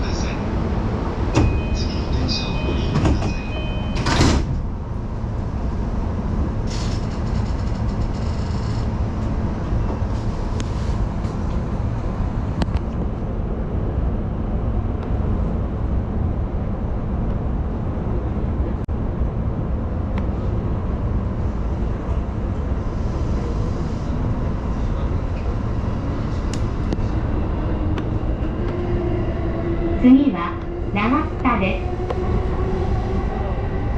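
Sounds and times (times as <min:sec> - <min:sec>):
train wheels rumbling on rails: 0:00.0 - 0:14.1, 0:14.7 - 0:33.9.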